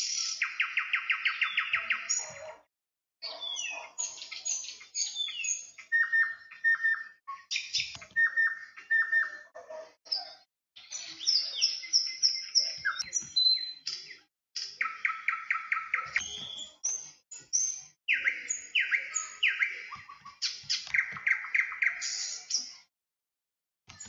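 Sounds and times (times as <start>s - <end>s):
birdsong chirps and whistles: 0.0s - 22.9s.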